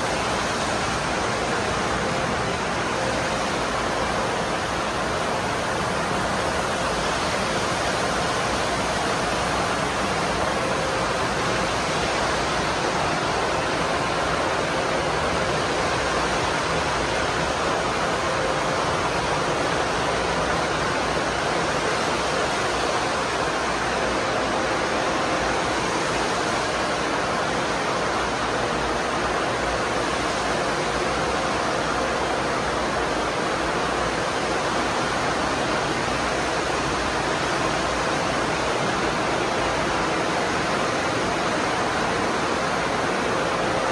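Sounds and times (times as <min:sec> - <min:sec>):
faint machine hum: 0:00.0 - 0:43.9.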